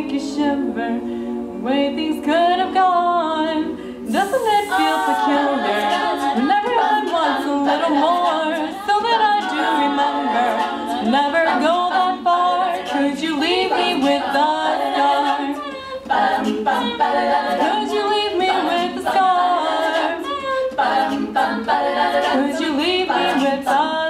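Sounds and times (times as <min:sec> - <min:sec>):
women singing a cappella: 0:00.0 - 0:24.0.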